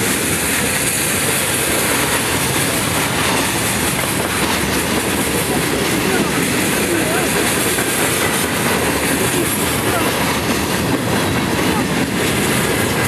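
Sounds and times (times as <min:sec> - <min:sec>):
steel wheels running on rails: 0:00.0 - 0:13.0.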